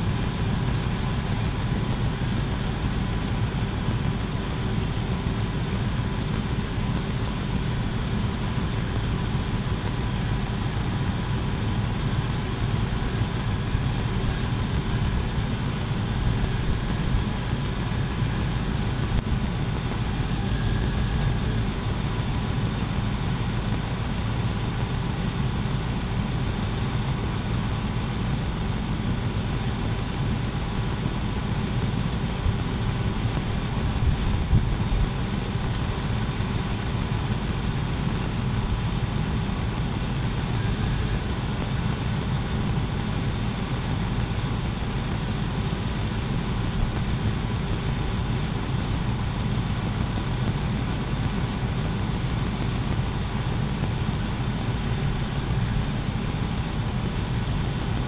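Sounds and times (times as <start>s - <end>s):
high whine: 0.0s - 58.0s
machine drone: 0.0s - 58.0s.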